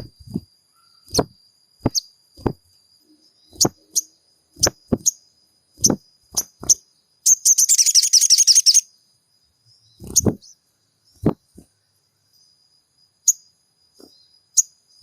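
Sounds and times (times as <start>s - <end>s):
bird chirps and trill: 0.0s - 9.0s, 9.6s - 11.6s, 13.2s - 15.0s.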